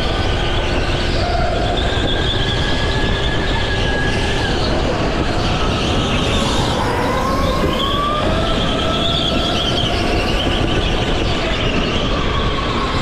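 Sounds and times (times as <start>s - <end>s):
go-kart engine whine: 0.0s - 13.0s.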